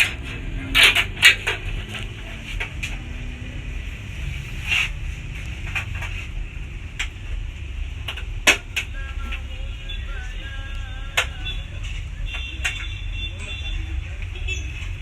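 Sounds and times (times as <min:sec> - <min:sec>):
steady low rumble: 0:00.0 - 0:12.4.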